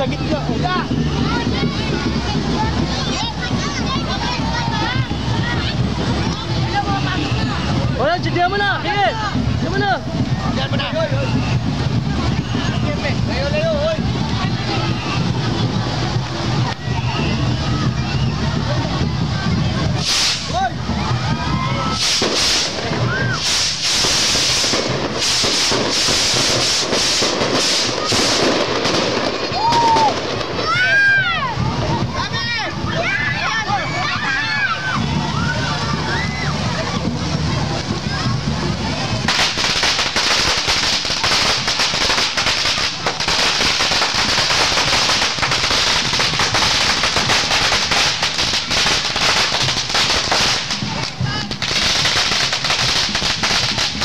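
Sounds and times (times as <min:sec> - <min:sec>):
firework crackling: 0:00.0 - 0:54.0
firework fountains hissing: 0:00.0 - 0:54.0.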